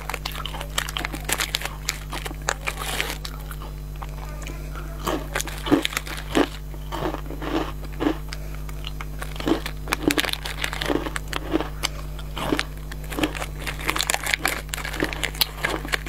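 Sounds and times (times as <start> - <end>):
plastic wrapper crinkling: 0.0 - 6.7, 8.9 - 11.7, 12.3 - 16.0
crunchy biscuit chewing: 0.0 - 16.0.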